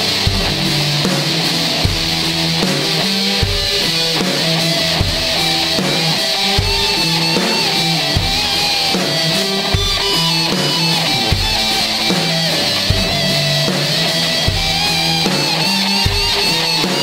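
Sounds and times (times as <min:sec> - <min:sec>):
drums: 0:00.0 - 0:17.0
electric guitar: 0:00.0 - 0:17.0.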